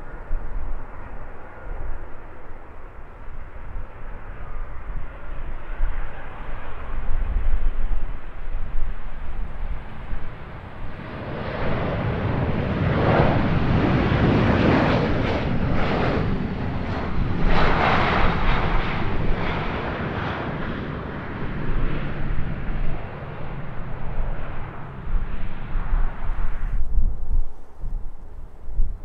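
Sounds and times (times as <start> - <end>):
jet engines rumbling past: 0.0 - 29.0.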